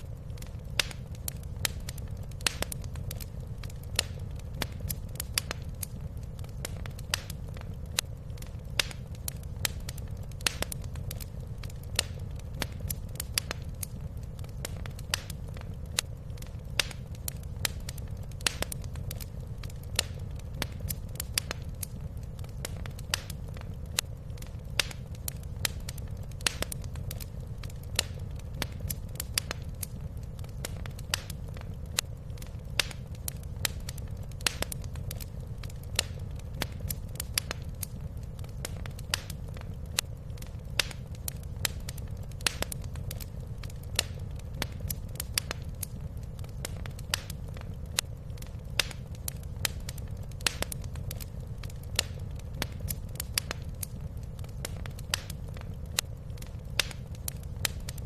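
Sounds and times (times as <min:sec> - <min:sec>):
low rumble of burning fire: 0:00.0 - 0:58.0
wood fire crackling and popping: 0:00.0 - 0:58.0.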